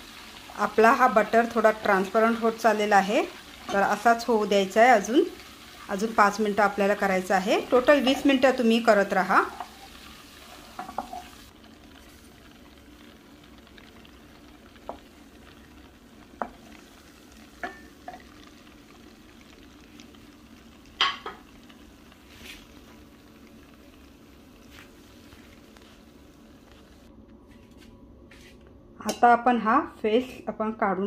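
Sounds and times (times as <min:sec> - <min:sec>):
butter sizzling in a pot: 0:00.0 - 0:27.1.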